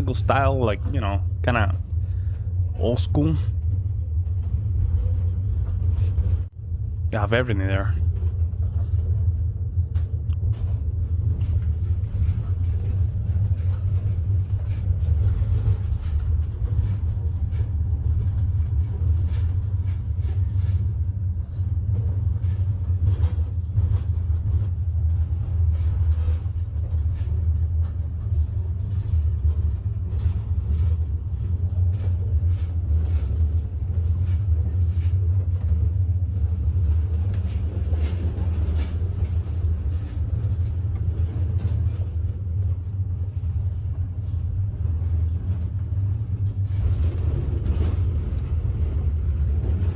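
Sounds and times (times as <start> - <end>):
faint rattles and clicks: 0.0 - 49.9
moving train rumble: 0.0 - 49.9.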